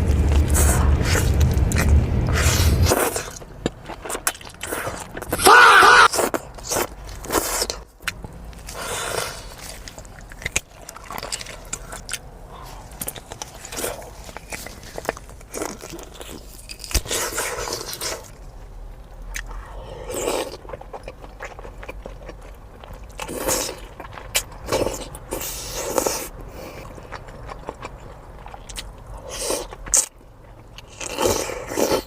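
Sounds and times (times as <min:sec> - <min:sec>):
biting crunching and chewing: 0:00.0 - 0:18.4, 0:19.3 - 0:32.0.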